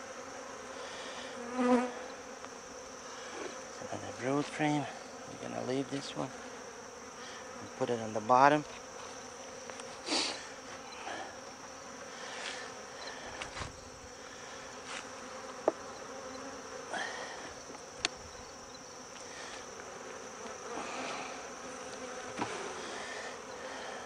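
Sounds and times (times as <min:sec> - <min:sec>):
honeybees buzzing: 0:00.0 - 0:24.0
single bees flying past: 0:00.0 - 0:24.0.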